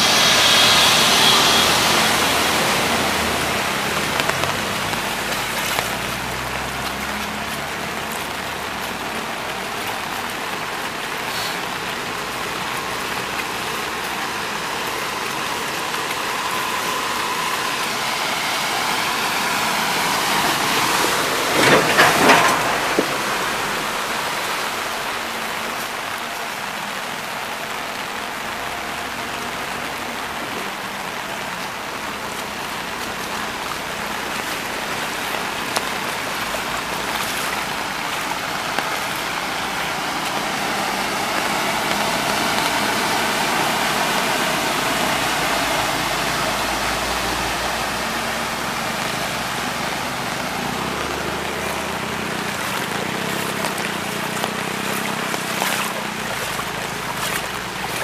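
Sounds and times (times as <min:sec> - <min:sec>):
floodwater rushing across street: 0:00.0 - 0:58.0.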